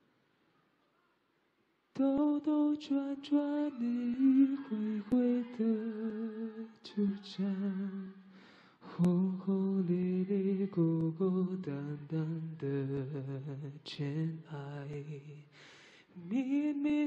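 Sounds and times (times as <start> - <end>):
man singing into a microphone: 2.0 - 17.0.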